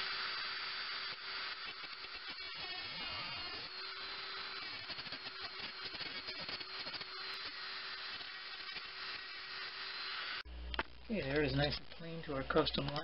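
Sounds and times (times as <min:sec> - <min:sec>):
rotary tool cutting screw: 0:00.0 - 0:10.5.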